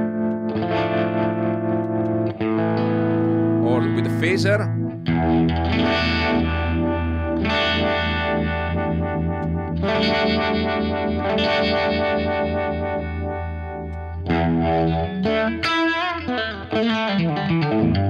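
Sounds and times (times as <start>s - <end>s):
distorted electric guitar chords: 0.0s - 18.0s.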